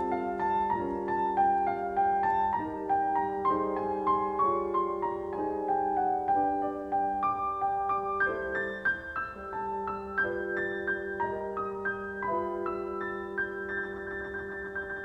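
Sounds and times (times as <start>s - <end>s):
solo piano classical piece: 0.0s - 15.0s.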